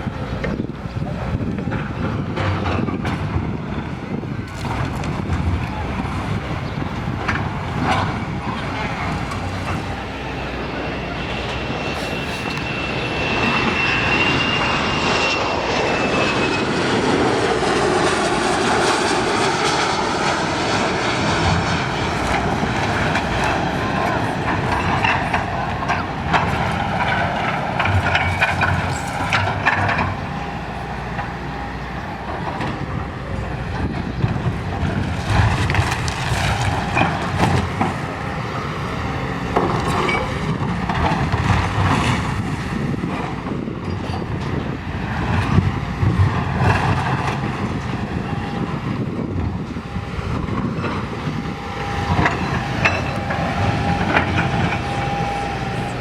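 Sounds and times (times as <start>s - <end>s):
heavy machine rumbling: 0.0s - 56.0s.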